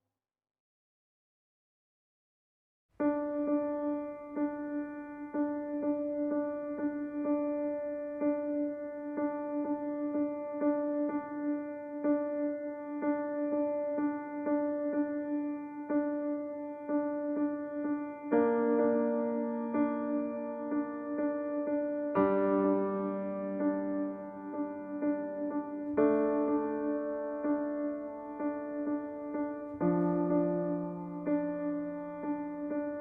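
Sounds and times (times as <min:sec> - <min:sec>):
instrumental keyboard music: 0:03.0 - 0:33.0.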